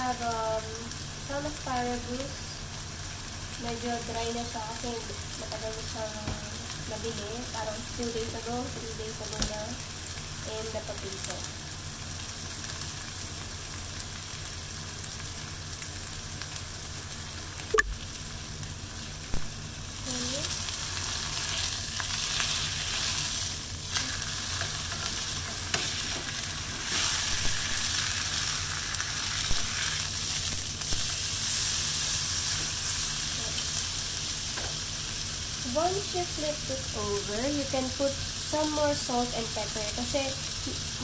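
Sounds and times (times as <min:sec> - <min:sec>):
steak sizzling in a frying pan: 0:00.0 - 0:41.0.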